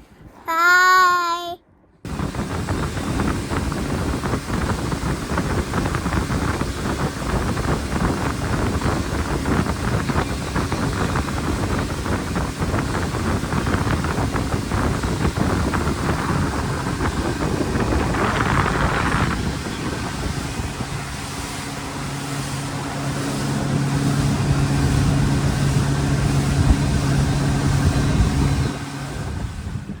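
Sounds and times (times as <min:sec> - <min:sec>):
low engine hum: 0:02.1 - 0:30.0
wind rumbling on microphone: 0:02.1 - 0:30.0.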